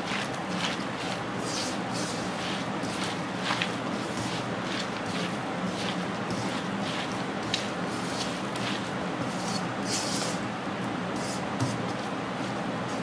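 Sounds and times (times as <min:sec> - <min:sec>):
food rustling in a wok: 0:00.0 - 0:13.0.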